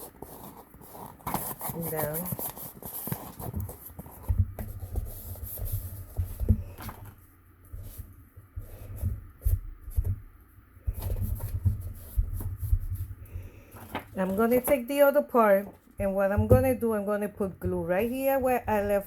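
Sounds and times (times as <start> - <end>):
paper rubbing and rustling: 0.0 - 10.1, 10.9 - 16.6, 17.9 - 19.0.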